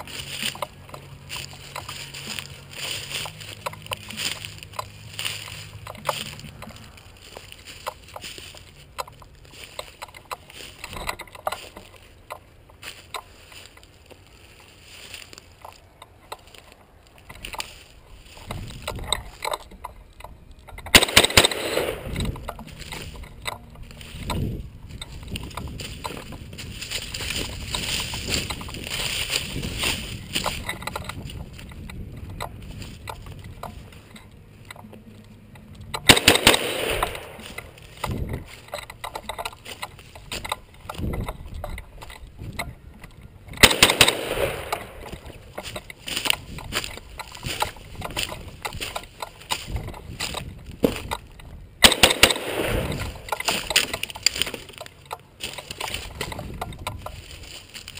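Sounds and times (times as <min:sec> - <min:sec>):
rifle handling rustling: 0:00.0 - 0:57.9
sharp knocks and scraping: 0:00.0 - 0:57.9.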